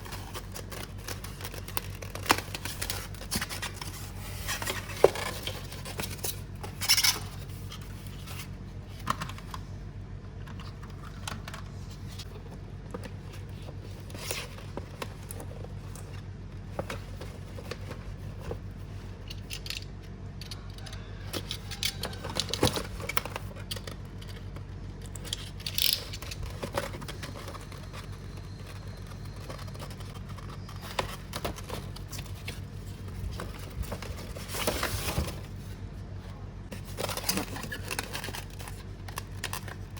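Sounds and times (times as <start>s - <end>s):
packaging clicks and rustles: 0.0s - 9.7s, 10.5s - 35.8s, 36.7s - 39.9s
steady low hum: 0.0s - 39.9s.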